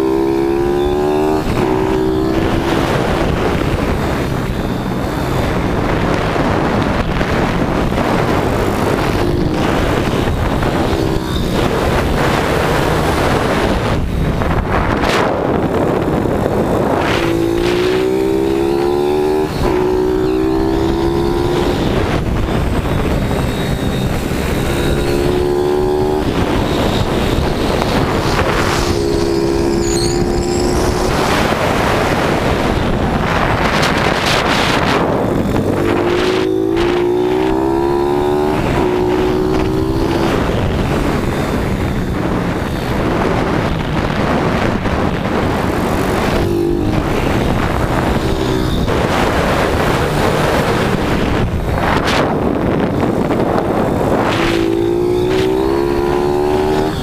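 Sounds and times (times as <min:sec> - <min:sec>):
motorbike engine revving: 0:00.0 - 0:57.0
wind rushing over microphone: 0:00.0 - 0:57.0.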